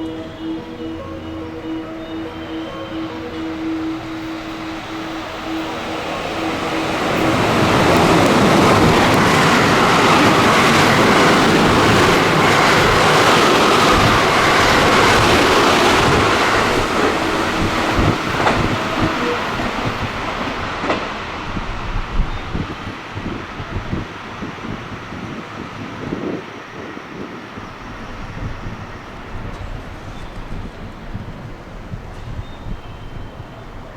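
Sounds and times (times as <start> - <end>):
rail clicks: 0.0 - 33.9
train wheels rushing on rail: 0.0 - 33.9.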